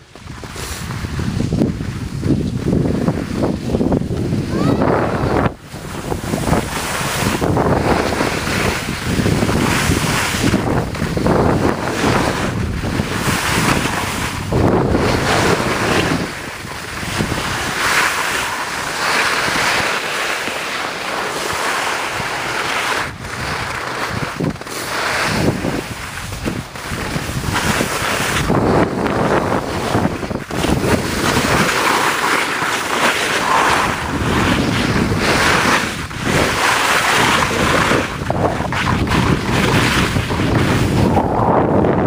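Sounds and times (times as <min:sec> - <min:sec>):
wind buffeting microphone: 0:00.0 - 0:20.3, 0:21.0 - 0:42.0.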